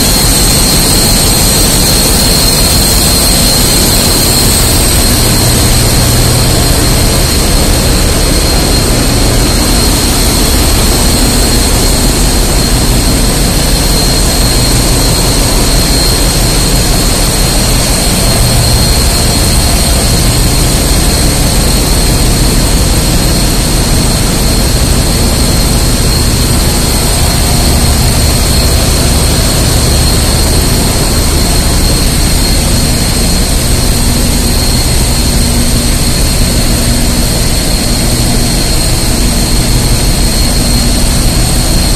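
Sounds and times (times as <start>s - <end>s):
engine room machinery drone: 0.0s - 41.9s
thin high whine: 0.0s - 41.9s.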